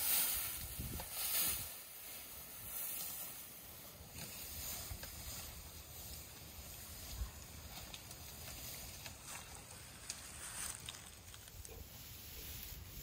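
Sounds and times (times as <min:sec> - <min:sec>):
dry grass rustling: 0:00.0 - 0:13.0.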